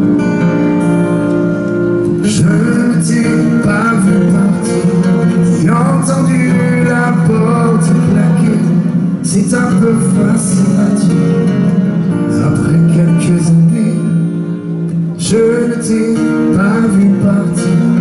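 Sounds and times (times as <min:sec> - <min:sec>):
live band playing: 0:00.0 - 0:18.0
man singing: 0:02.0 - 0:18.0.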